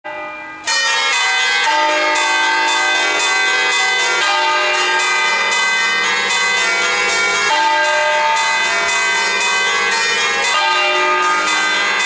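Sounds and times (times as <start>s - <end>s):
swinging church bells ringing: 0.1s - 12.0s.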